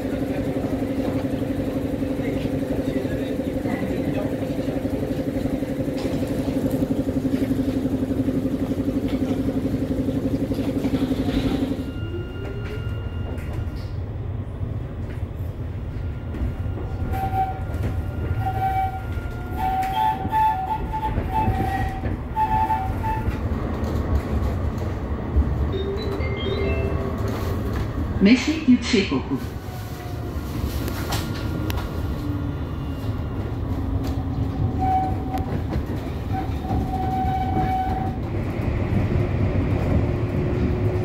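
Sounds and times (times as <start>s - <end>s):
tram electrical hum: 0.0s - 41.0s
tram running rumble: 0.0s - 41.0s.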